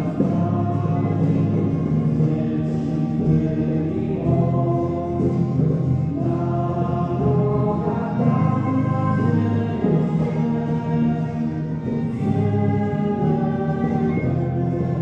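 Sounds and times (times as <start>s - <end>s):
instrumental accompaniment: 0.0s - 15.0s
voices singing a hymn: 0.0s - 15.0s.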